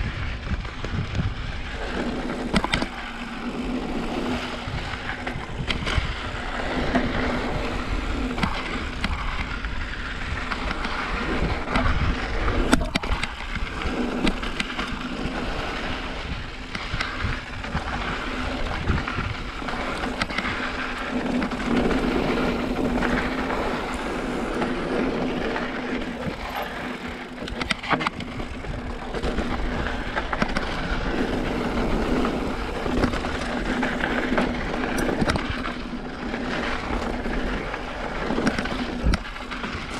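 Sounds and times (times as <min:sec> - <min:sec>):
bike knocking and rattling: 0:00.0 - 0:39.9
bike tyres rumbling on rock: 0:00.0 - 0:39.9.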